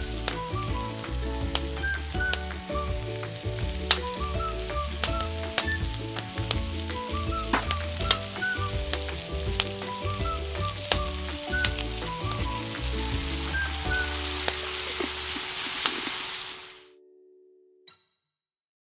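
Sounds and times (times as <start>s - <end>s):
food sizzling in a pan: 0.0s - 16.9s
background music: 0.0s - 18.0s.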